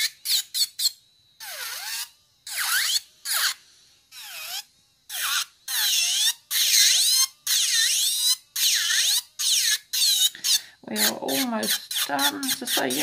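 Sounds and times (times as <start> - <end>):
nail file high whine: 0.0 - 13.0.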